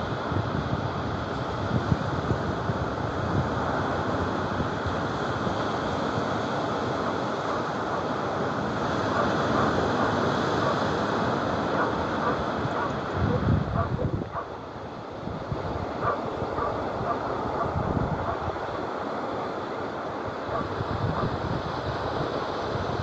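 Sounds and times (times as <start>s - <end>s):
sea surf breaking: 0.0s - 23.0s
wind buffeting microphone: 0.0s - 23.0s.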